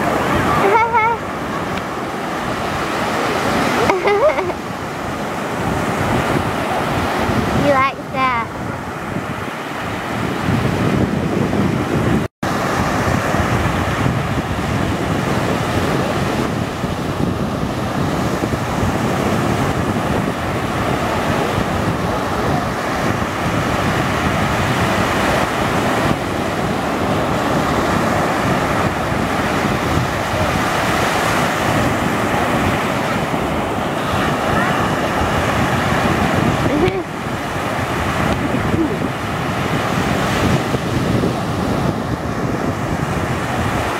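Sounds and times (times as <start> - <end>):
ocean surf breaking: 0.0 - 43.9
wind buffeting microphone: 0.0 - 43.9.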